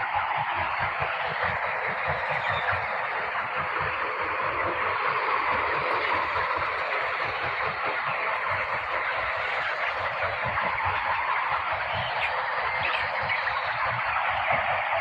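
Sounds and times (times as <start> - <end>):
chickens chirping: 0.0 - 15.0.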